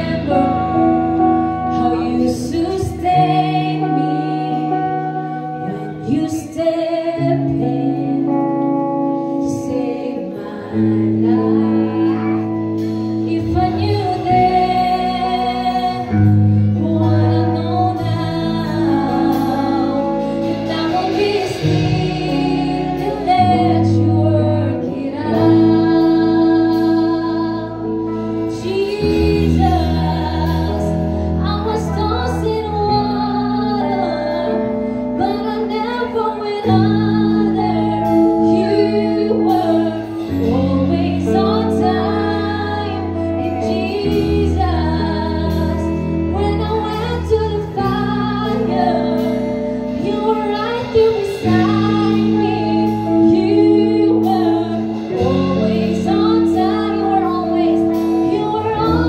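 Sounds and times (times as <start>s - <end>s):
electric bass long notes: 0.0s - 59.0s
electric guitar: 0.0s - 59.0s
woman singing into microphone: 0.0s - 59.0s
drums with cymbal strikes: 10.9s - 59.0s.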